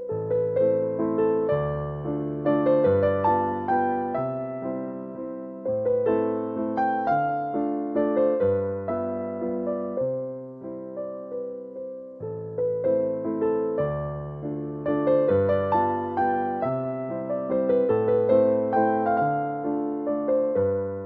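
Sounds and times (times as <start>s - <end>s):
slow electric piano melody: 0.0s - 21.0s.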